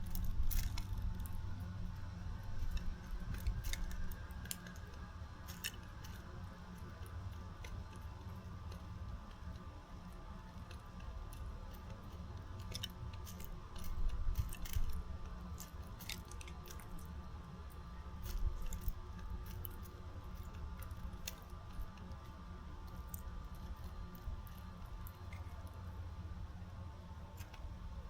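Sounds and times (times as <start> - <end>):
birds cracking seed: 0.0 - 25.9.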